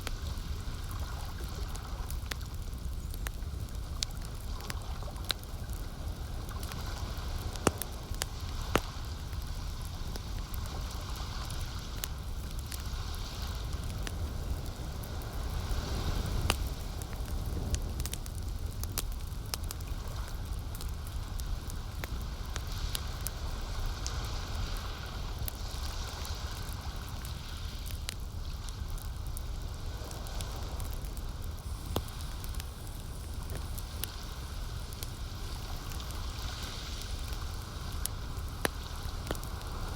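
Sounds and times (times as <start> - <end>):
campfire crackling: 0.0 - 39.9
low wash of lake water: 0.0 - 39.9
sharp pops and snaps of fire: 0.0 - 39.9.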